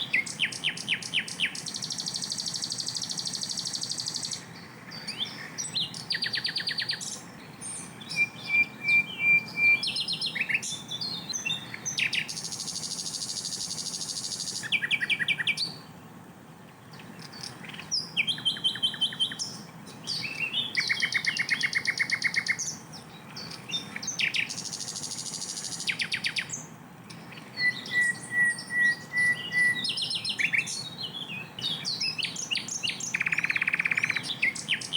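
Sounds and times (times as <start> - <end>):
flycatcher singing varied song: 0.0 - 34.9.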